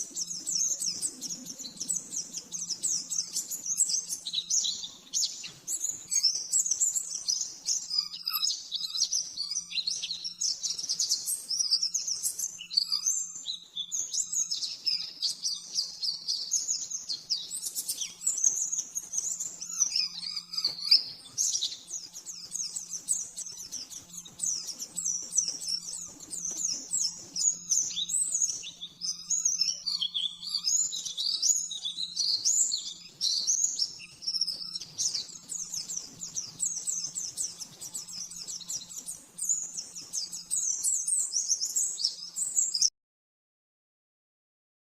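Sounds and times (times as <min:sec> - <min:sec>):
bird twittering song: 0:00.0 - 0:42.9.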